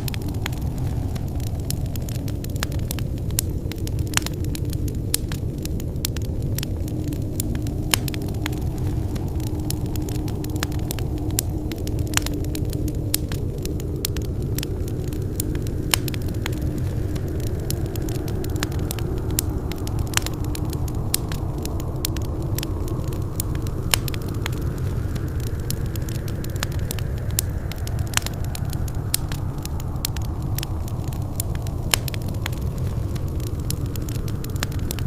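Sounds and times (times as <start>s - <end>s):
fire popping and crackling: 0.0s - 35.0s
low rumble of flames: 0.0s - 35.0s.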